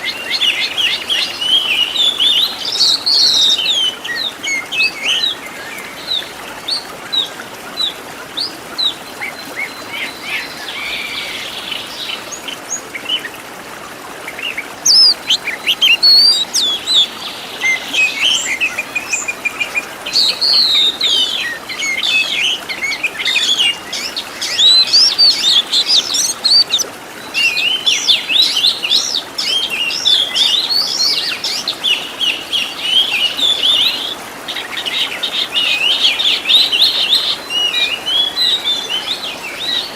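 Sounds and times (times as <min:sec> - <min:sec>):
bird singing varied song: 0:00.0 - 0:13.3, 0:14.3 - 0:39.9.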